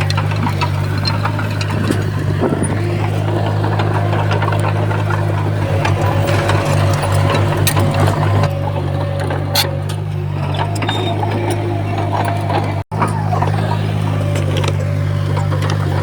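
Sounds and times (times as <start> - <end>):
bulldozer diesel engine running: 0.0 - 16.0
clicks and clanks: 0.0 - 16.0.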